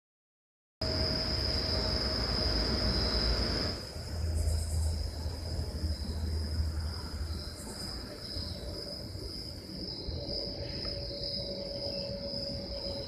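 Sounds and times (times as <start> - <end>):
crickets trilling: 0.8 - 13.0
rushing background noise: 0.8 - 13.0.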